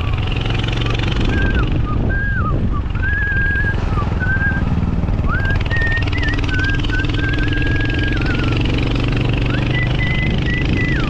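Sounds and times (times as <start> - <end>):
vehicle engine and road rumble: 0.0 - 11.0
person whistling a tune: 0.7 - 11.0.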